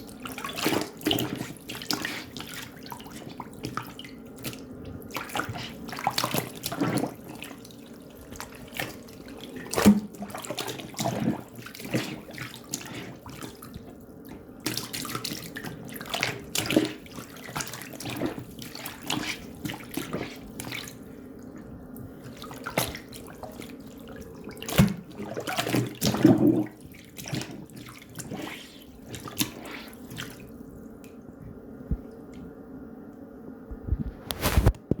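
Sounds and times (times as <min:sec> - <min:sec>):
water splashing at a sink: 0:00.0 - 0:31.2
faint steady hum: 0:00.0 - 0:35.0.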